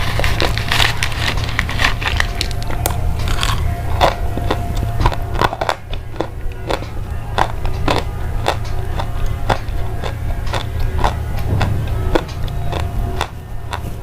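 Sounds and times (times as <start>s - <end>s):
crisp crunching snaps: 0.0s - 14.0s
low hum: 0.0s - 14.0s.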